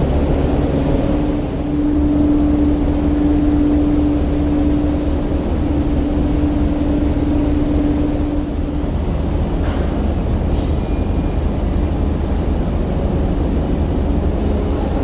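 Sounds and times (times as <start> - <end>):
diesel engines idling: 0.0 - 15.0.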